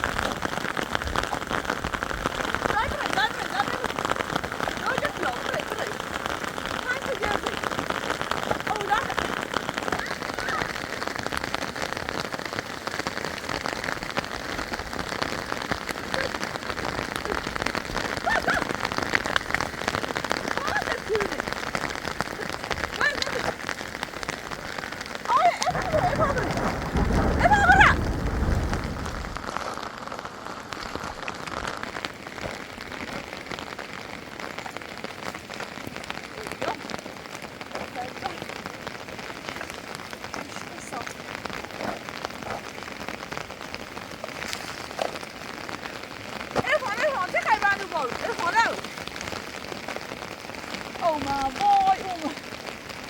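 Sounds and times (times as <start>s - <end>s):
heavy rain patter: 0.0s - 53.0s.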